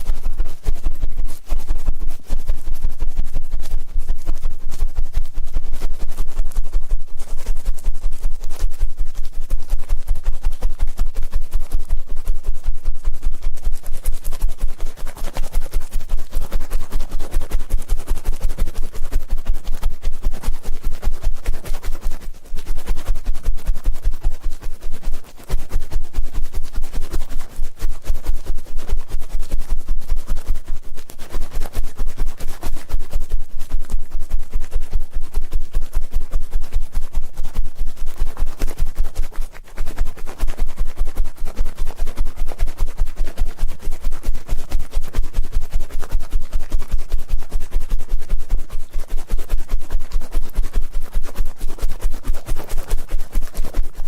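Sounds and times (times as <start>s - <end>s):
scratching against microphone: 0.0s - 54.0s.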